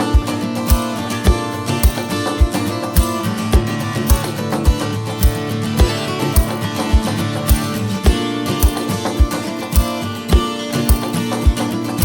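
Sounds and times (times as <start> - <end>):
guitar-led music with steady beat: 0.0 - 12.0.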